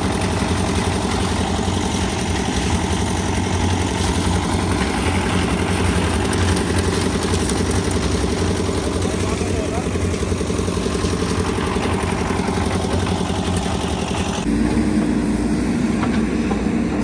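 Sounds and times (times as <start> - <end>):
engine chugging steadily: 0.0 - 17.0.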